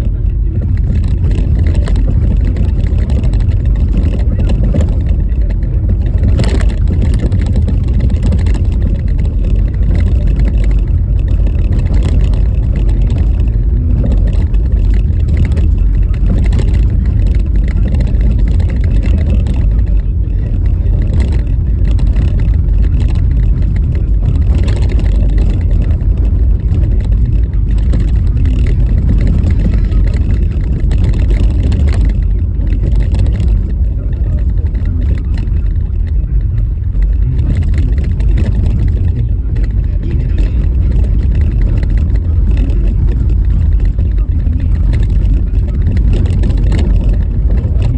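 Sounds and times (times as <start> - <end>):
road and wind rumble: 0.0 - 47.9.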